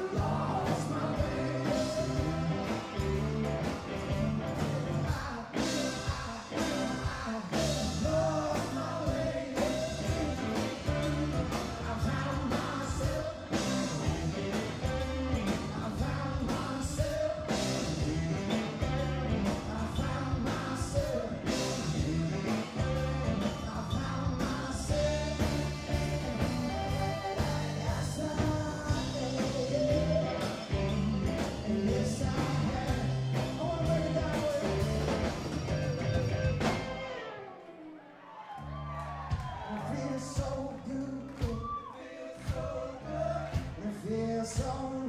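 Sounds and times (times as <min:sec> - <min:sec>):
live rock band playing: 0:00.0 - 0:37.6.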